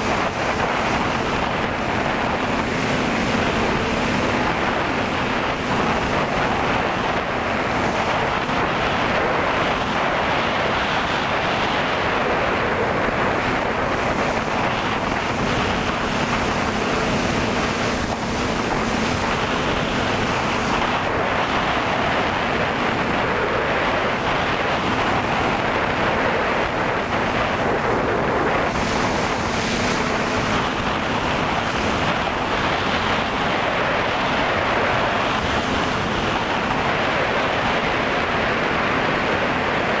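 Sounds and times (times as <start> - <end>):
drone propellers rushing: 0.0 - 40.0.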